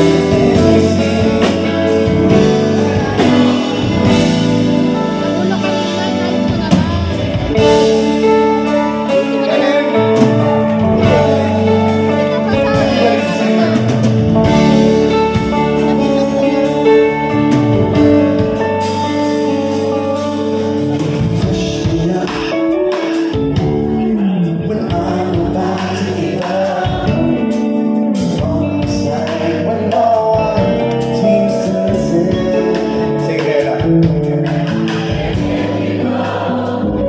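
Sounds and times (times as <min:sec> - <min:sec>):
electric guitar: 0:00.0 - 0:37.0
live band playing a ballad: 0:00.0 - 0:37.0.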